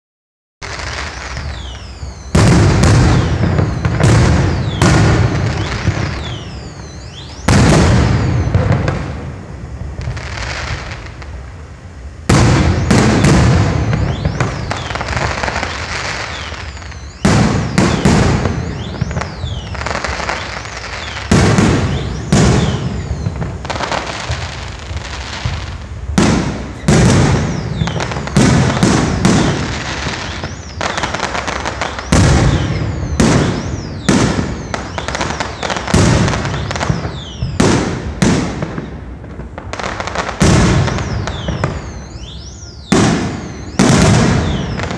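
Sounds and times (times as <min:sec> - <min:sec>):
firework shells bursting: 0:00.6 - 0:11.4, 0:12.2 - 0:44.9.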